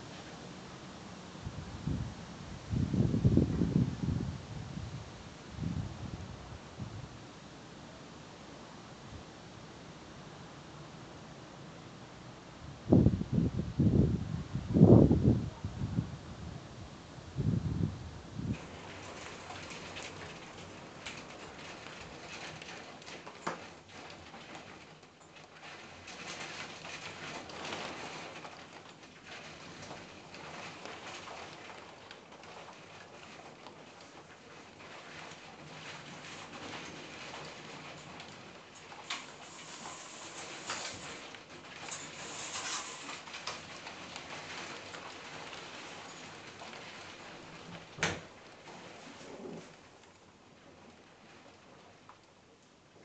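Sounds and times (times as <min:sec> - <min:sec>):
rain falling steadily: 0:00.0 - 0:53.0.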